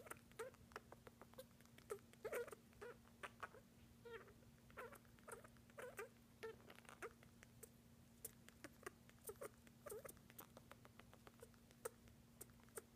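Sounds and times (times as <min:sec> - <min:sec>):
parrot squeaks and clicks: 0:00.0 - 0:12.9.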